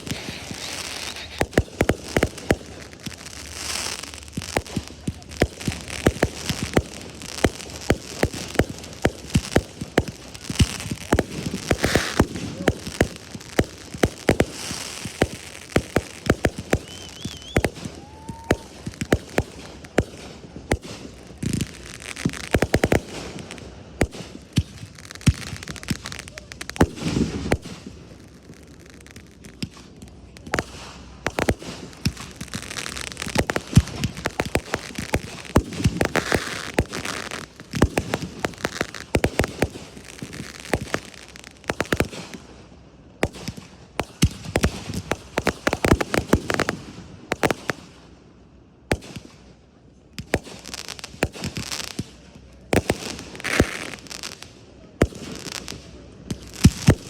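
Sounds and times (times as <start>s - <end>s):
firework bangs: 0.0s - 42.5s, 43.2s - 48.0s, 50.2s - 57.0s
firework crackling and hissing: 0.0s - 57.0s.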